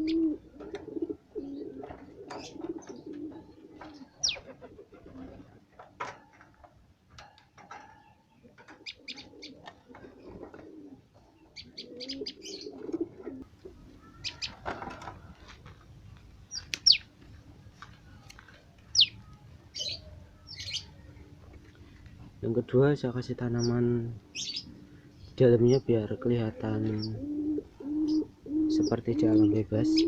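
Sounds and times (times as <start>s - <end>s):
cage birds chirping: 0.0s - 30.0s.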